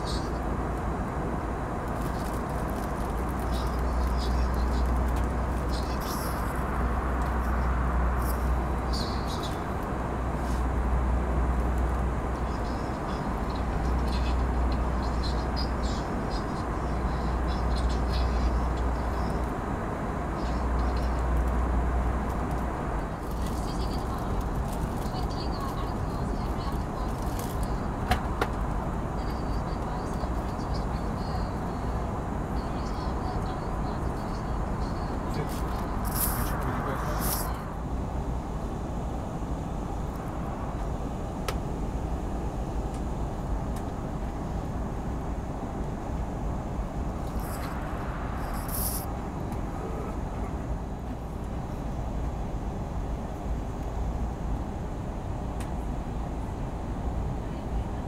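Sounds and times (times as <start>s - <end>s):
airplane cabin rumble: 0.0s - 58.0s.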